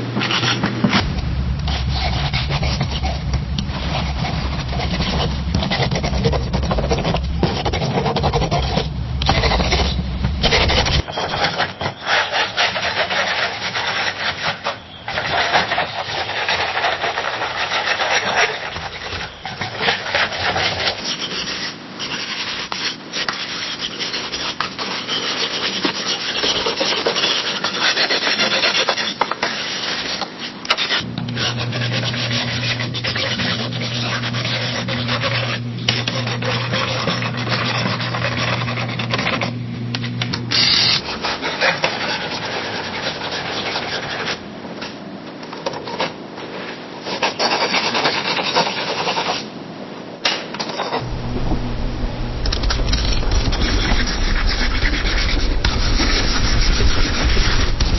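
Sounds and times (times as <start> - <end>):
low background hum: 0.0 - 57.9
pencil scratching on wood: 1.7 - 39.6, 40.6 - 44.4, 45.8 - 49.4, 52.8 - 57.9.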